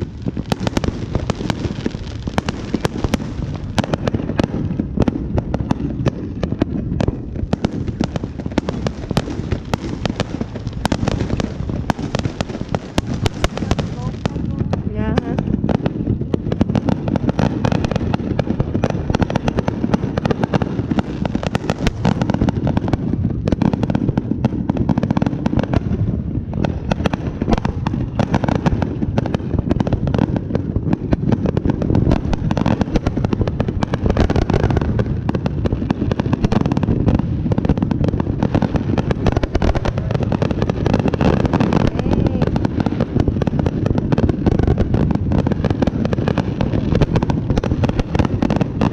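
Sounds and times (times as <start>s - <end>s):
fireworks barrage: 0.0s - 48.9s.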